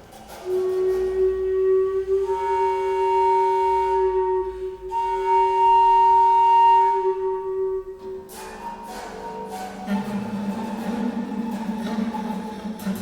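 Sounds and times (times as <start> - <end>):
low flute-like held tone: 0.0 - 13.0
high flute-like held tone: 0.2 - 12.0.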